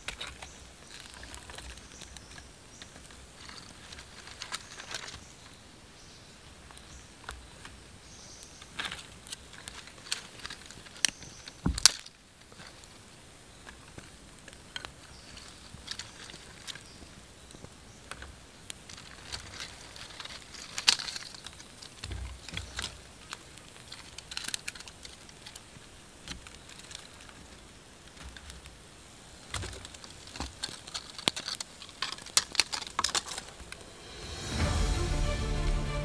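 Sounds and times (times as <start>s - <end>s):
wood fire crackling: 5.4s - 36.0s.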